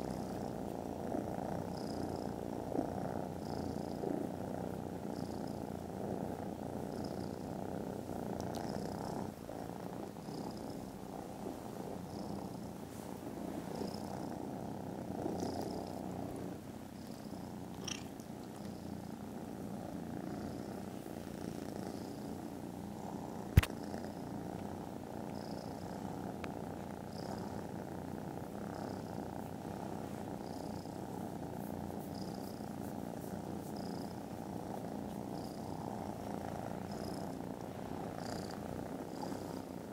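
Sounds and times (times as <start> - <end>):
kittens purring: 0.0 - 39.9.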